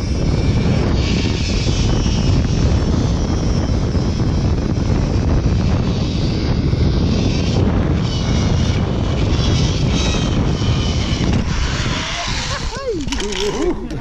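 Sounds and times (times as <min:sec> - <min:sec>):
wind rushing over microphone: 0:00.0 - 0:14.0
zip-line trolley running on cable: 0:00.0 - 0:14.0.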